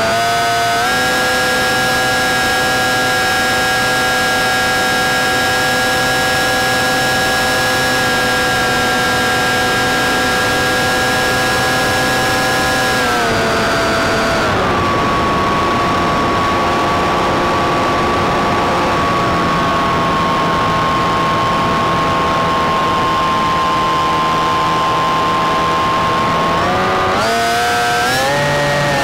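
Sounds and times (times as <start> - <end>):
model plane motor droning: 0.0 - 29.0
rushing wind noise: 0.1 - 29.0.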